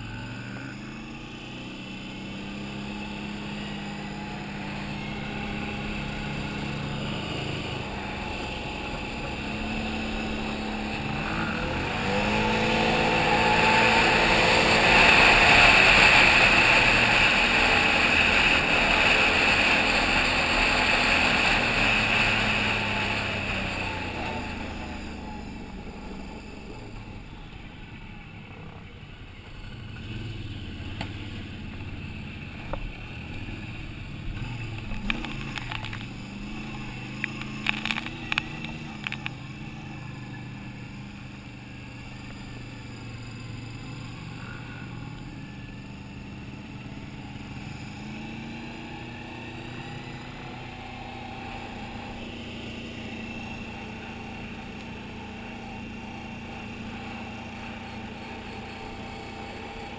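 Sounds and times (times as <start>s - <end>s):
atv engine running hard: 0.0s - 59.9s.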